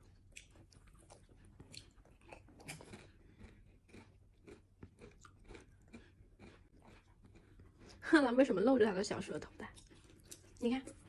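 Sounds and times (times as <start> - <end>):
person chewing potato chips: 0.0 - 8.0, 9.6 - 11.0.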